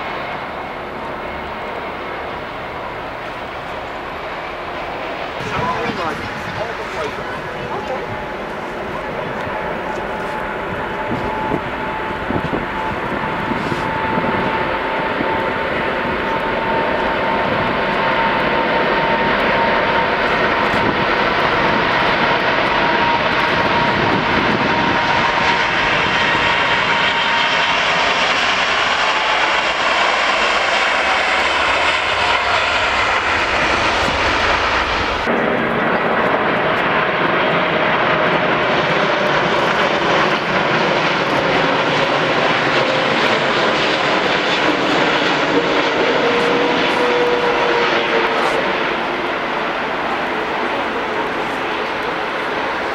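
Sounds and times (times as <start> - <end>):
airliner engines passing: 0.0 - 52.9.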